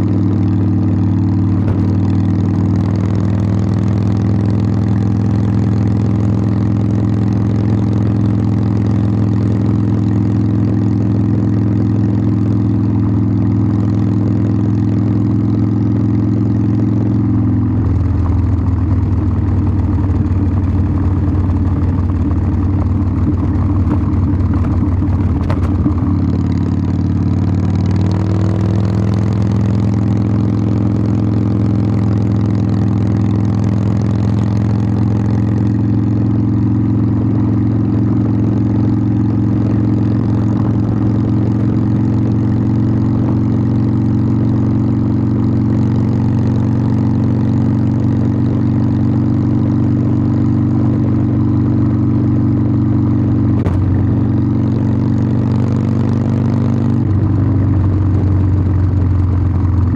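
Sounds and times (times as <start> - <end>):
motorcycle exhaust while riding: 0.0 - 59.9.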